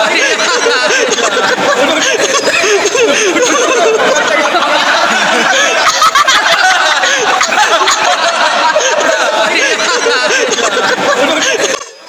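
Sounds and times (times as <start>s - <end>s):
crowd chatter and laughter: 0.0s - 12.0s.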